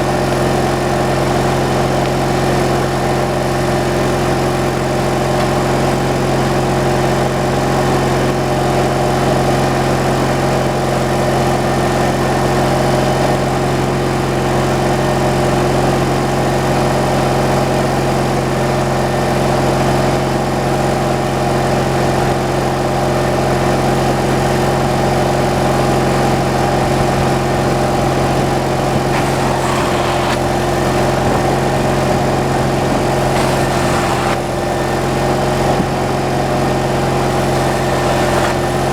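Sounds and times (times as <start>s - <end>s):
gasoline engine running steadily: 0.0s - 38.9s.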